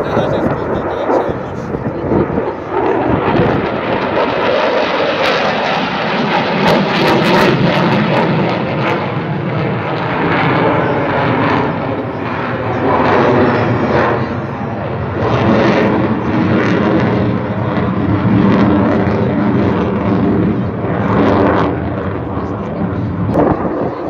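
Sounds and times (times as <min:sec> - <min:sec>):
jet engine roaring overhead: 0:00.0 - 0:24.0.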